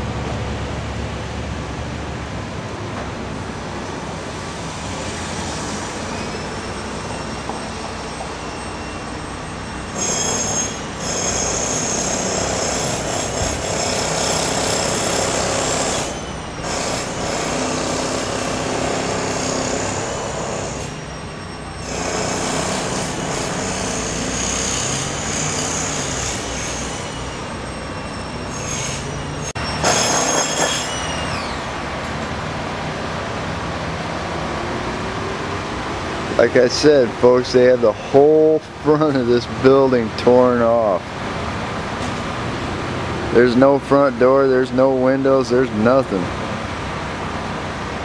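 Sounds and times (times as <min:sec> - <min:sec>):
construction machinery whining: 0:00.0 - 0:48.0.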